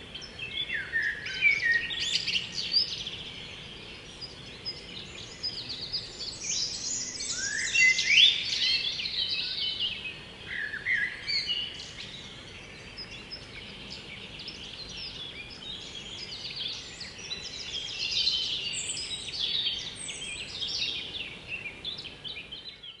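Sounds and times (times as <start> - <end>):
birds singing: 0.0 - 23.0
faint steady hiss: 0.0 - 23.0.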